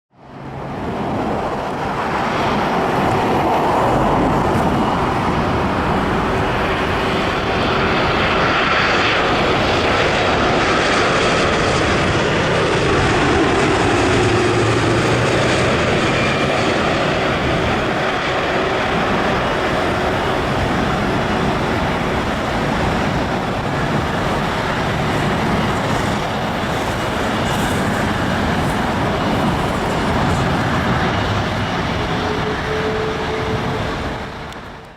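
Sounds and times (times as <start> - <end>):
jet engines roaring: 0.2 - 34.9.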